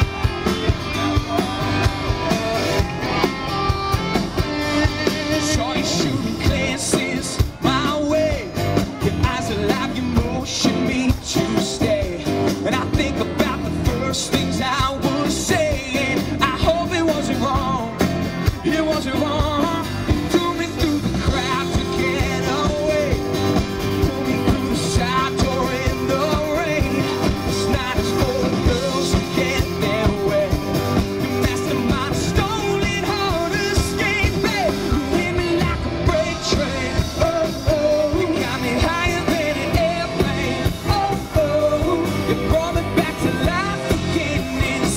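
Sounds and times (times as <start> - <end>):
man singing: 0.0 - 44.9
rock band playing: 0.0 - 44.9.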